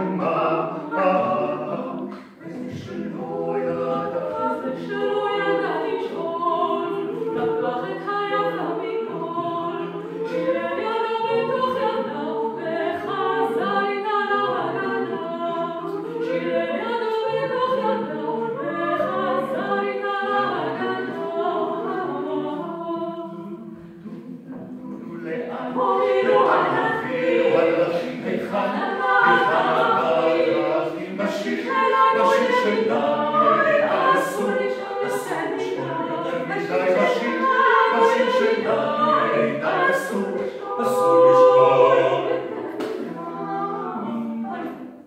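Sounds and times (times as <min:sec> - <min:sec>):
vocal quartet singing in harmony: 0:00.0 - 0:45.0.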